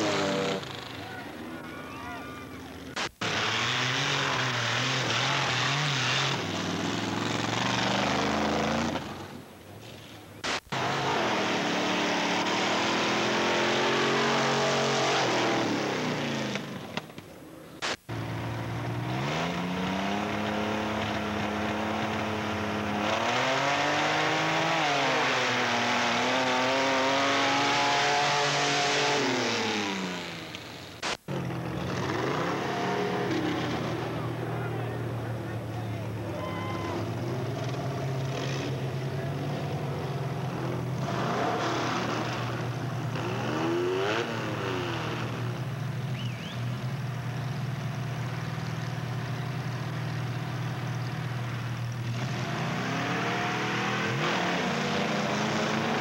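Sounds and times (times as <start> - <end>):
racing engines at full throttle: 0.0 - 9.5, 10.4 - 17.0, 17.8 - 56.0.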